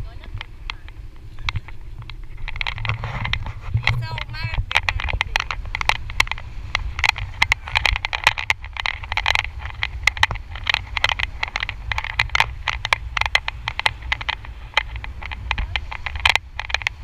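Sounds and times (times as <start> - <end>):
wind buffeting microphone: 0.0 - 17.0
camera mount clicking and rattling: 0.3 - 17.0.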